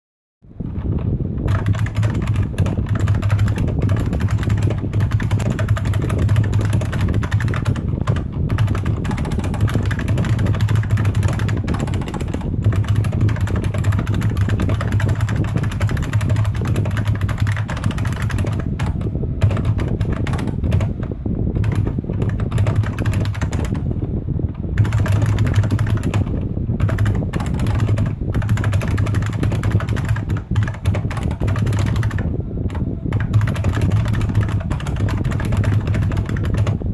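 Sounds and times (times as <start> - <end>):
low hum: 0.5 - 36.1
fast clacking keyboard typing: 1.4 - 24.0, 24.7 - 36.9.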